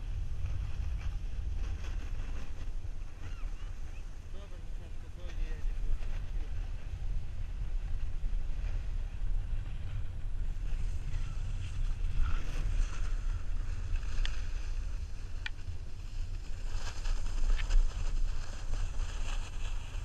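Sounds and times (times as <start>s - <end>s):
snowboard sliding on snow: 0.0s - 3.2s, 3.9s - 20.0s
wind buffeting microphone: 0.0s - 20.0s.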